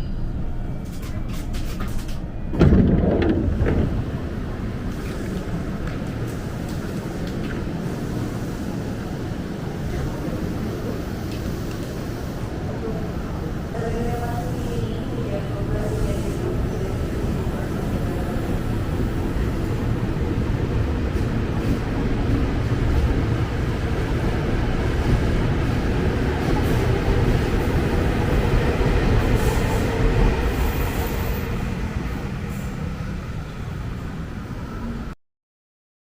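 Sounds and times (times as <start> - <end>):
electric train rumbling on rails: 0.0 - 35.2.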